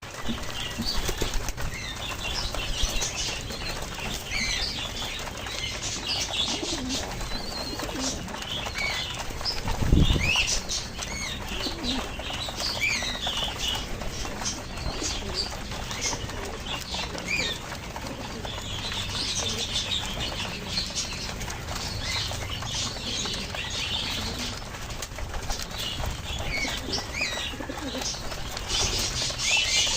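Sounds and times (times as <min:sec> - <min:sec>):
pigeons flapping wings: 0:00.0 - 0:29.9.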